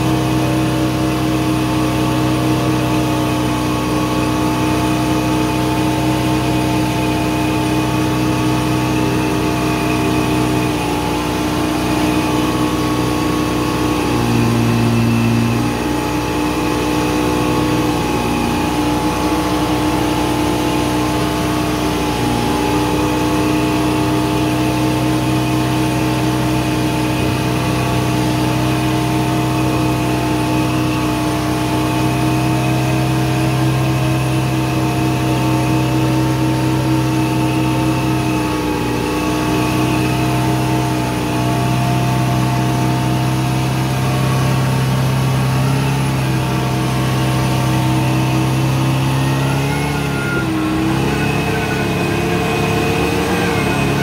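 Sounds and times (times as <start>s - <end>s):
heavy engine running: 0.0s - 54.0s.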